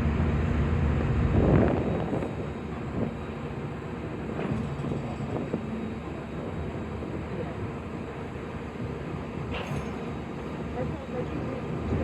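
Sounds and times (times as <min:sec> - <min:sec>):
ferry engine droning: 0:00.0 - 0:12.0.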